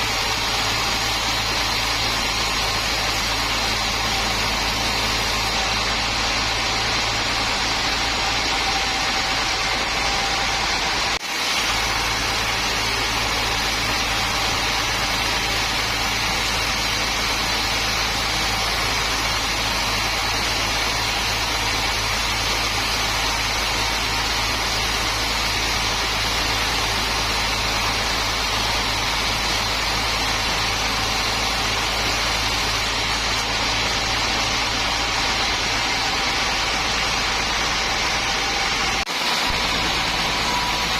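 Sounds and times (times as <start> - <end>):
sawmill machinery droning: 0.0 - 40.9.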